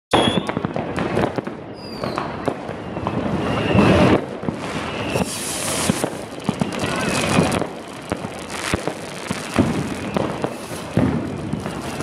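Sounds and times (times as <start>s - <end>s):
firework whistles falling in pitch: 0.1s - 0.7s, 1.7s - 12.0s
firecrackers crackling and banging: 0.3s - 12.0s.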